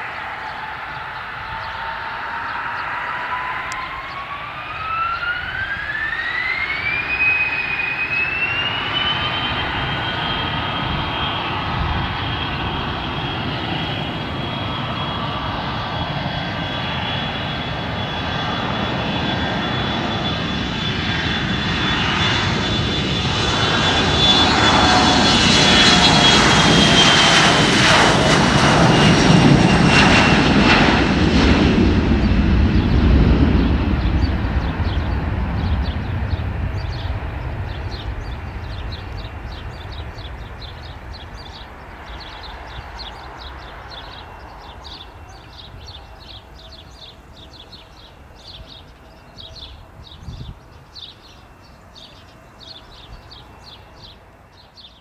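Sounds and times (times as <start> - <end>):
jet roar: 0.0 - 54.8
jet engine whine: 0.0 - 55.0.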